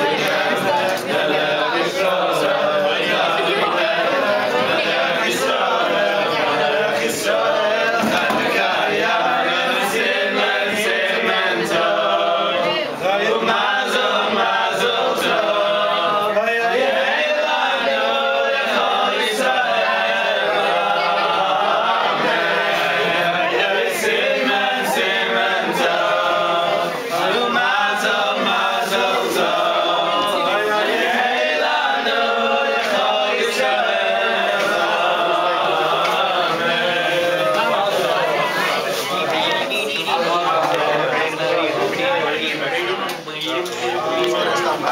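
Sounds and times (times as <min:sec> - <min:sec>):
men singing in chorus: 0:00.0 - 0:43.1.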